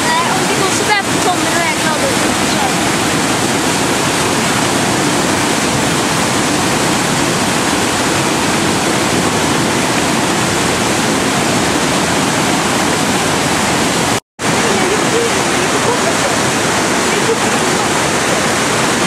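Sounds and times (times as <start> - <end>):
river rapids rushing: 0.0 - 19.0.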